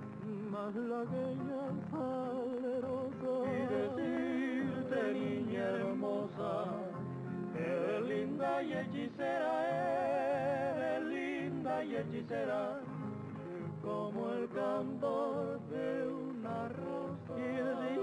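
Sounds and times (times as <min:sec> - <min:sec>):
person singing with vibrato: 0:00.1 - 0:18.0.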